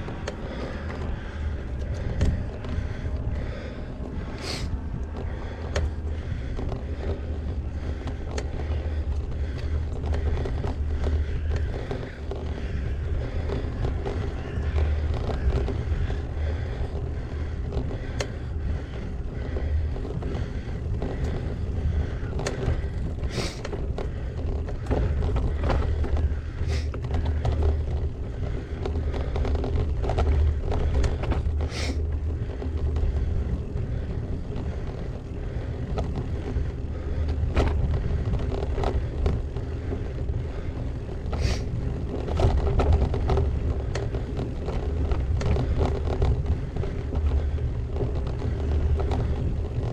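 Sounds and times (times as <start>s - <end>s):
bike clicks and knocks on bumps: 0.0s - 49.9s
bike tyre noise: 0.0s - 49.9s
wind rumble: 0.0s - 49.9s.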